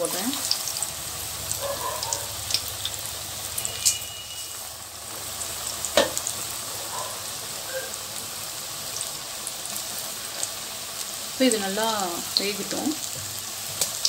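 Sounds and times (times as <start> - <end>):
batter deep-frying in hot oil: 0.0 - 14.0.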